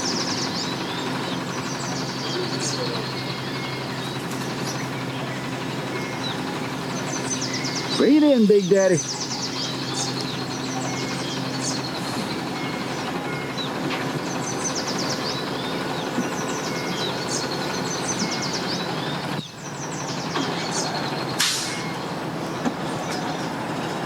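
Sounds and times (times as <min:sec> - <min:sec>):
songbird trilling: 0:00.0 - 0:23.6
engine humming: 0:00.0 - 0:24.0.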